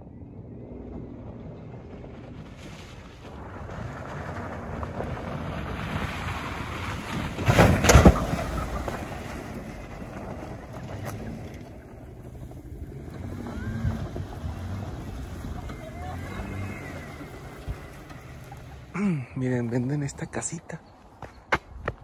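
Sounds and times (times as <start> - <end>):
low rumble: 0.0 - 19.3.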